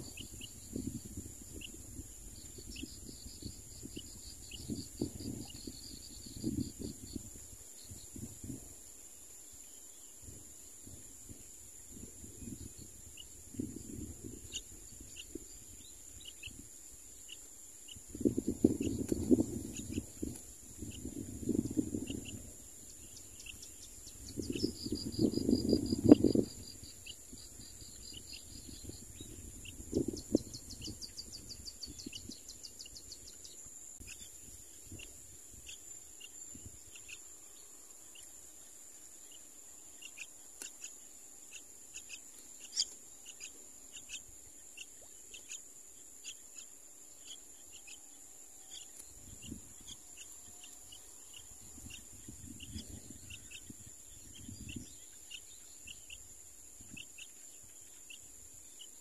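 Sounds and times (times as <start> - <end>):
faint bird chirps: 0.0 - 59.0
high insect drone: 0.0 - 59.0.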